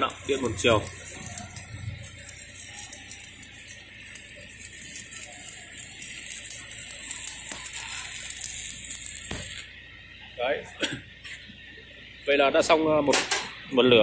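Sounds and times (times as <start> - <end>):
welding arc crackling: 0.0 - 13.6.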